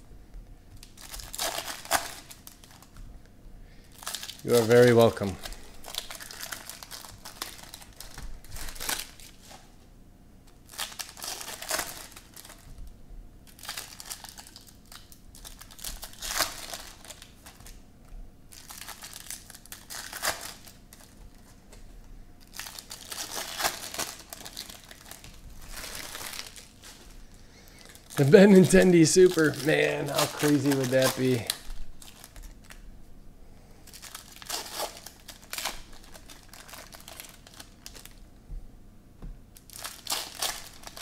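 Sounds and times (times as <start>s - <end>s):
foil wrappers crinkling and tearing: 0.8s - 3.0s, 3.8s - 9.7s, 10.5s - 17.8s, 18.5s - 21.6s, 22.4s - 32.8s, 33.8s - 38.2s, 39.6s - 41.0s.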